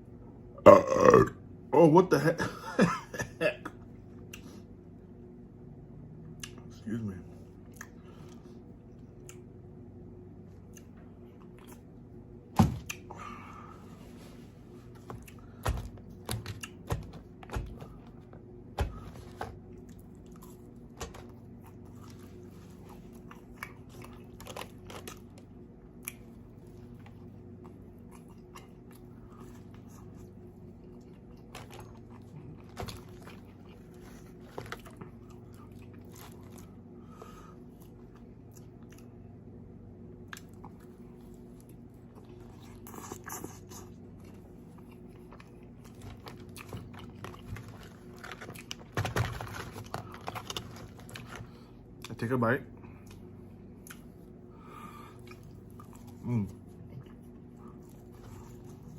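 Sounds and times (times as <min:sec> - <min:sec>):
steady low hum: 0:00.0 - 0:58.9
person chewing food: 0:07.6 - 0:39.6, 0:40.2 - 0:52.1, 0:52.8 - 0:58.9.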